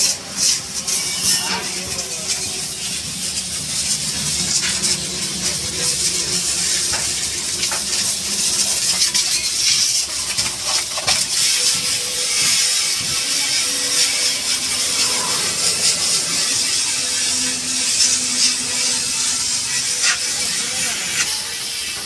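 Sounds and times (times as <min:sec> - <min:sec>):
high-pressure water jet hissing: 0:00.0 - 0:22.0.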